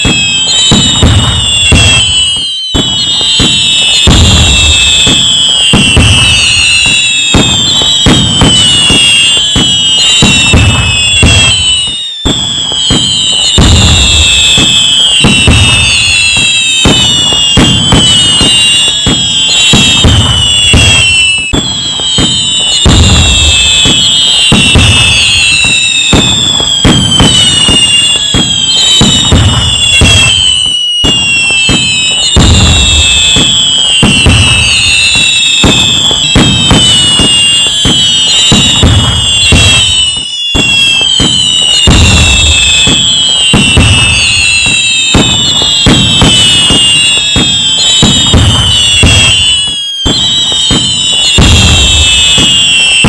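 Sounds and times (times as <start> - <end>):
fireworks booming bangs: 0.0 - 53.0
whistling fireworks: 0.0 - 53.0.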